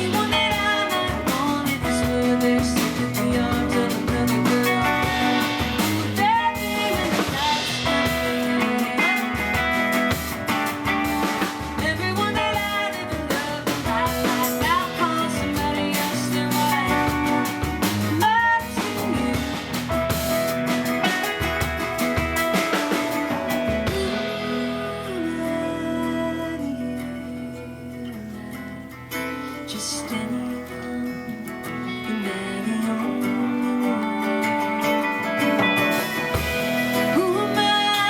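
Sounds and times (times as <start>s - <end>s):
drums: 0.0s - 38.0s
guitar: 0.0s - 38.0s
person singing: 0.0s - 38.0s.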